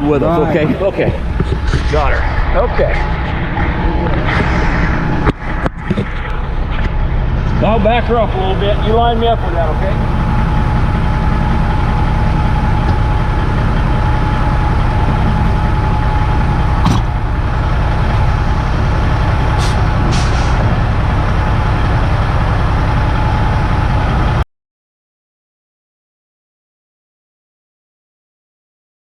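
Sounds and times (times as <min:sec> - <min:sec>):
diesel truck engine running: 0:00.0 - 0:24.4.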